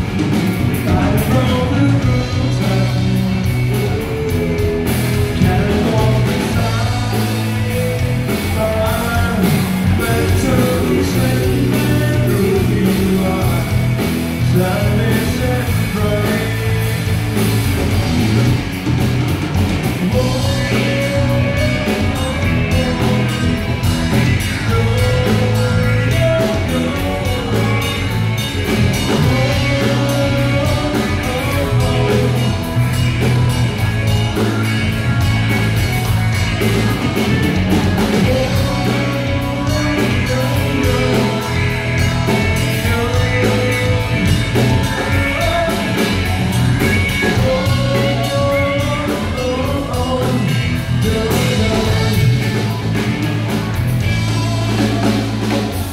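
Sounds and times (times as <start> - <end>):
live rock band: 0.0 - 55.9
man singing: 0.7 - 18.4, 19.8 - 34.7, 36.8 - 55.8.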